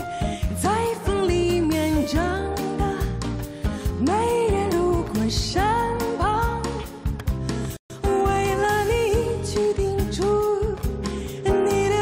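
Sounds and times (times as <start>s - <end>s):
woman singing: 0.0s - 7.1s, 7.9s - 12.0s.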